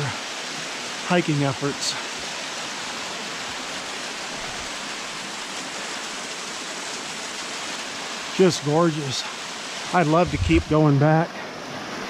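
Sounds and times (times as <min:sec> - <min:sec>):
water rushing down a waterfall: 0:00.0 - 0:12.0.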